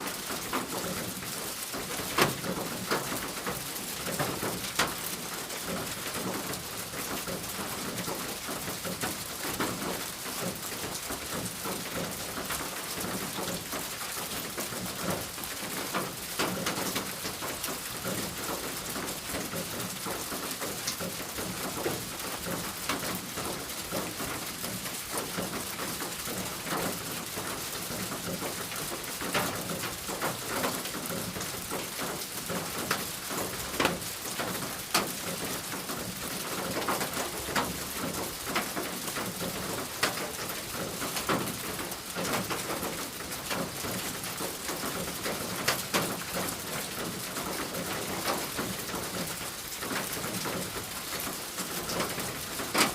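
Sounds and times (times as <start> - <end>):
rain falling on a roof: 0.0 - 52.9.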